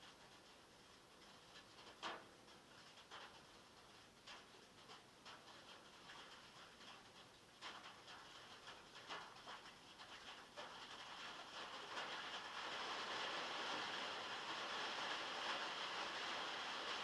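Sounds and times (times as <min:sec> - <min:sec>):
rain on a metal roof: 0:00.0 - 0:17.0.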